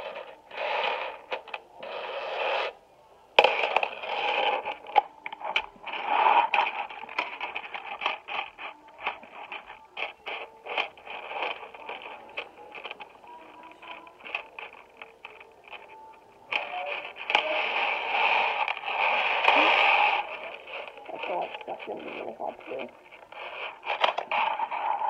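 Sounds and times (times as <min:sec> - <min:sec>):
magnetic balls clicking together: 0:03.4 - 0:25.0
magnetic balls rattling on wooden floor: 0:03.4 - 0:25.0.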